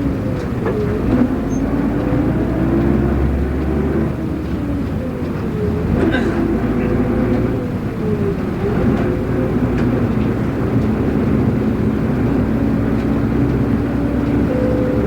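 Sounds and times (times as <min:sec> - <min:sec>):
bus engine running: 0:00.0 - 0:15.0
road rumble: 0:00.0 - 0:15.0.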